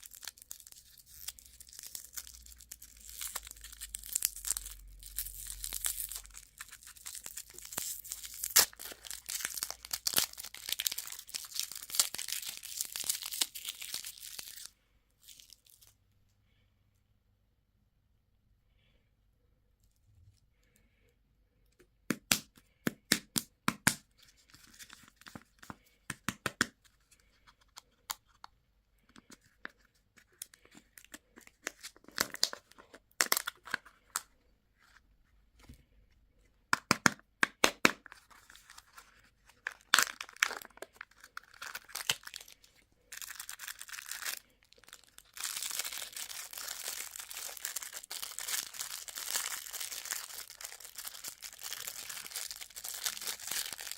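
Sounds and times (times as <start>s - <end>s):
candy wrapper crinkling: 0.0s - 16.0s, 23.9s - 28.4s, 29.0s - 35.0s, 36.7s - 53.9s.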